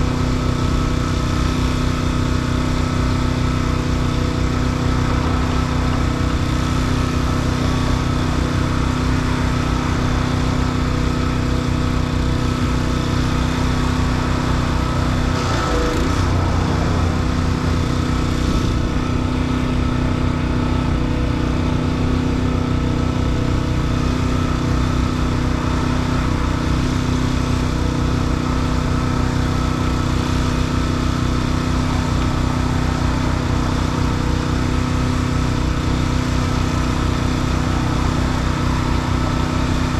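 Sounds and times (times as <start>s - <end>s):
engine running with low pulse: 0.0s - 39.9s.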